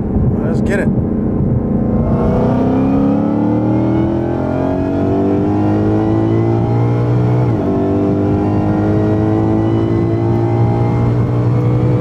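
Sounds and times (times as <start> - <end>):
car engine accelerating: 0.9 - 12.0.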